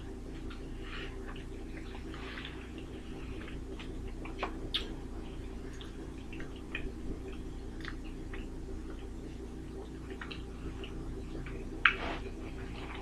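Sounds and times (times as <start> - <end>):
chewing with wet clicks: 0.0 - 13.0
steady low hum: 0.0 - 13.0
lip smacks: 0.4 - 13.0.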